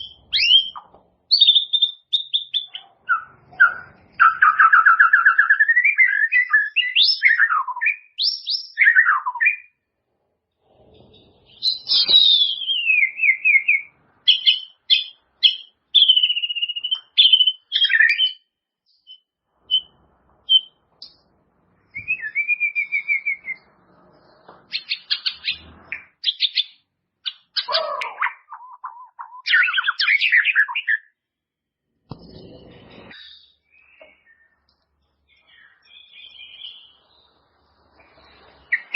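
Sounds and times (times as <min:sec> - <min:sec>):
bird singing whistles and trills: 0:00.0 - 0:09.8, 0:11.0 - 0:21.2, 0:21.9 - 0:31.2, 0:33.0 - 0:38.9.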